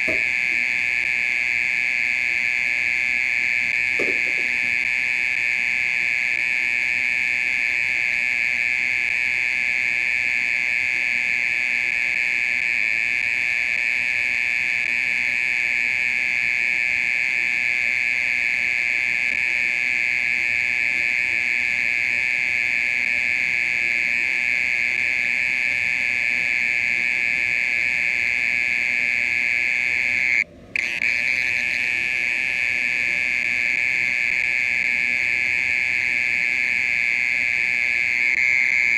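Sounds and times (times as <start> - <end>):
mole cricket buzzing trill: 0.0 - 38.9.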